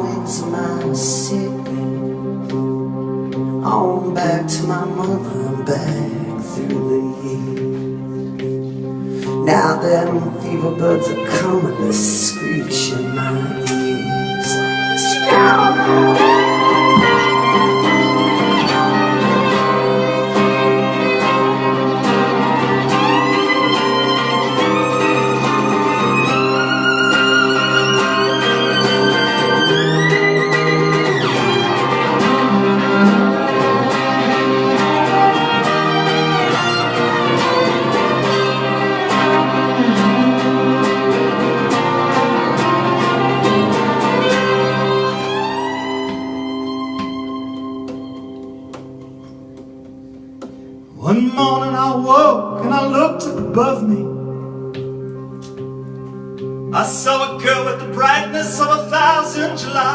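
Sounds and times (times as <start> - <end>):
fiddle melody: 0.0 - 51.2
strummed accompaniment: 0.0 - 59.9.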